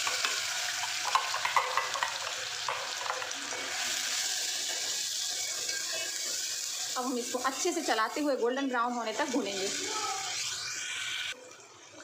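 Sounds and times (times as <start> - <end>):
paste sizzling in hot oil: 0.0 - 11.4.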